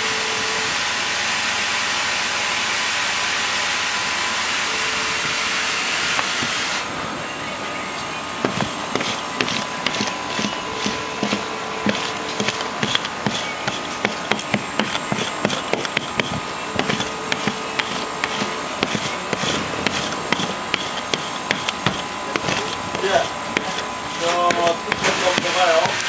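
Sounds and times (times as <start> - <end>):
electric fabric shaver buzzing: 0.0 - 6.9, 8.1 - 26.0.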